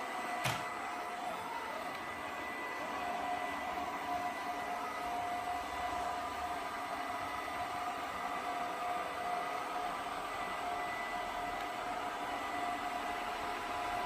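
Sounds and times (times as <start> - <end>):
robot vacuum cleaner whirring: 0.0 - 14.0.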